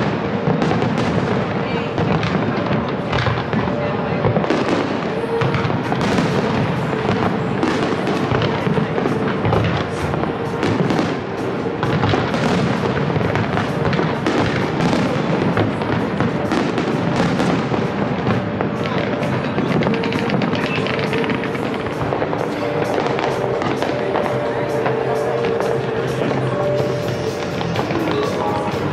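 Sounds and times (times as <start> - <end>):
fireworks crackling: 0.0 - 28.9
music: 0.0 - 28.9.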